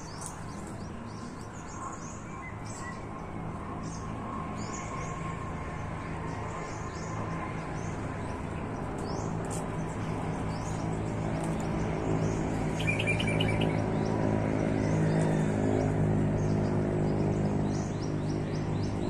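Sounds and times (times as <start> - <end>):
birds chirping: 0.0 - 5.2, 6.2 - 19.0.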